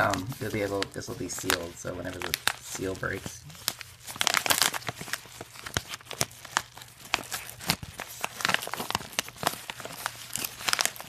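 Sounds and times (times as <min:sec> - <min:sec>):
paper envelope being torn open: 0:00.0 - 0:11.0.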